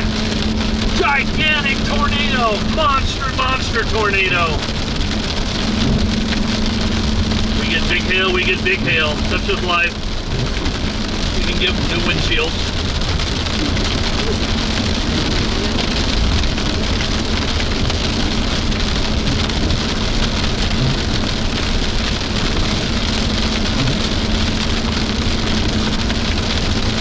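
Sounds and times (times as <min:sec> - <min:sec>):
engine and road hum: 0:00.0 - 0:27.0
rain on car roof: 0:00.0 - 0:27.0.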